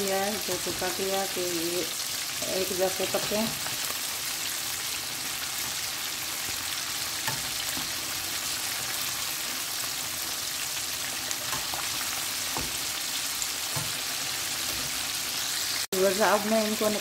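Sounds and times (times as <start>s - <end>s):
wings deep-frying in oil: 0.0s - 17.0s.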